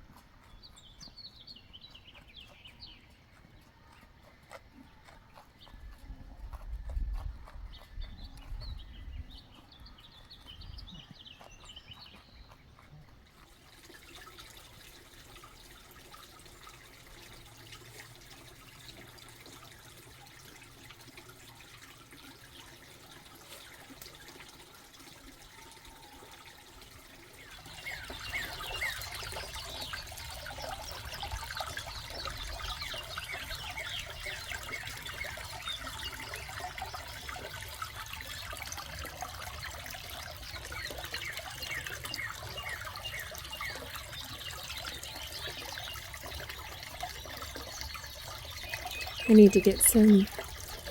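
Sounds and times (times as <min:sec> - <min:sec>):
water trickling and splashing: 0:06.8 - 0:50.9.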